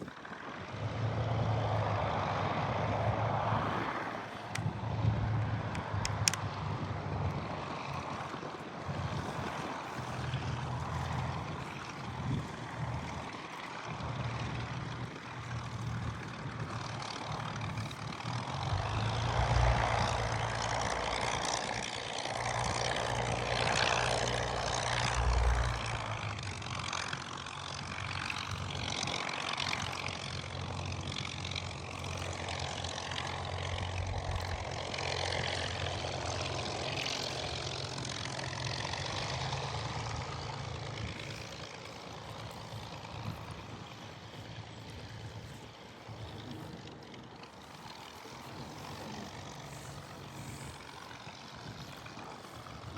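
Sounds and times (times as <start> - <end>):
propeller aircraft engine drone: 0.0 - 52.9.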